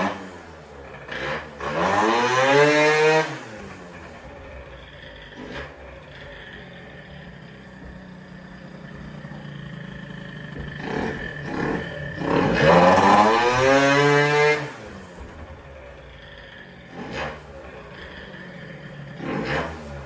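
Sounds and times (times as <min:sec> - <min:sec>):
scooter engine idling and revving: 0:00.0 - 0:20.0.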